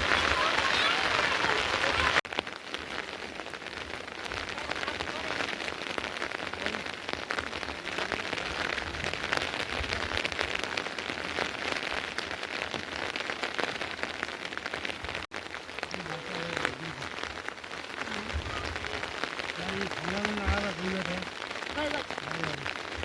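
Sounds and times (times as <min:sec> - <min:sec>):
rain pattering on surfaces: 0:00.0 - 0:23.0.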